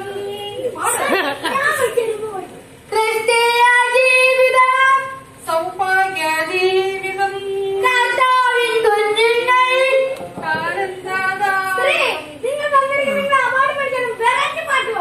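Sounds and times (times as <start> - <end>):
woman singing: 0.0 - 1.2, 2.9 - 14.4
boy singing: 0.0 - 15.0.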